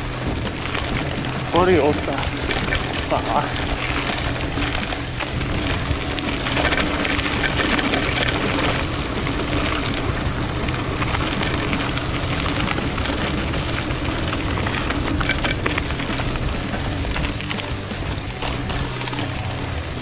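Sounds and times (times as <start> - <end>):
bike rattling: 0.0 - 20.0
bike tyres crunching on gravel: 0.0 - 20.0.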